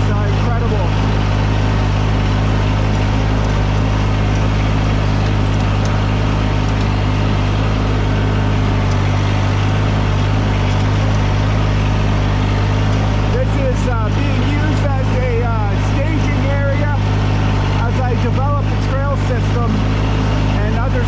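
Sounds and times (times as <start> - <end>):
loader engine running steadily: 0.0 - 21.0.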